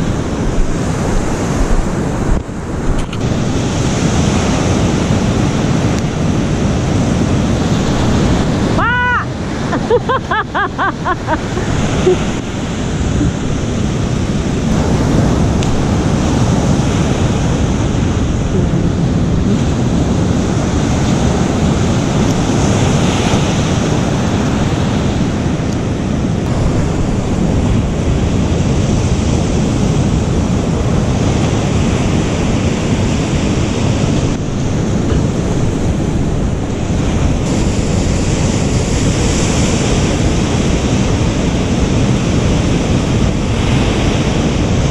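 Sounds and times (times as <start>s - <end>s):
surf breaking on a beach: 0.0s - 44.9s
wind buffeting microphone: 0.0s - 44.9s.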